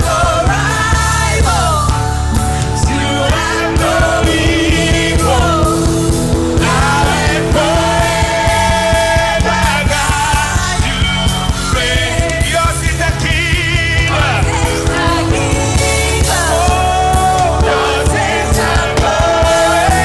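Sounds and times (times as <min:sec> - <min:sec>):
gospel band music: 0:00.0 - 0:20.0
person singing: 0:00.0 - 0:20.0
steady drum beat: 0:00.0 - 0:20.0.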